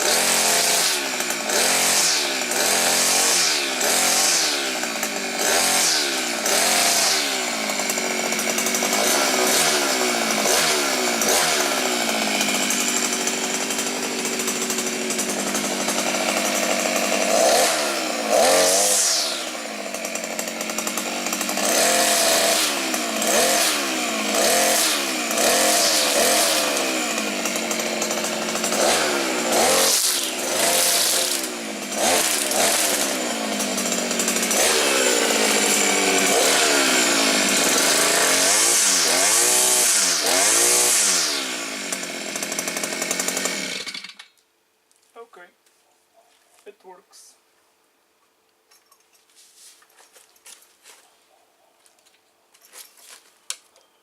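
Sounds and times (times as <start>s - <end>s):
brushcutter engine revving: 0.0s - 44.3s.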